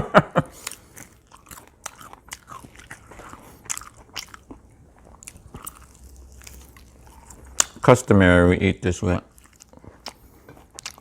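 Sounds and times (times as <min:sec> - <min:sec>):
person chewing crunchy food: 0:00.5 - 0:08.1, 0:09.2 - 0:11.0.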